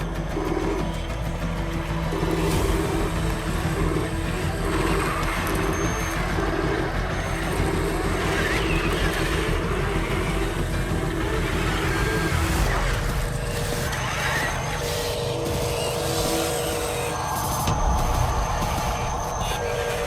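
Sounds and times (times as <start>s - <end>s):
pulsing engine-like drone: 0.0s - 20.0s.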